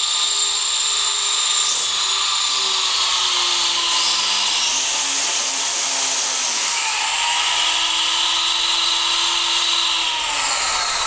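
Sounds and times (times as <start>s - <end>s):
rc helicopter rotor whine: 0.0s - 11.0s.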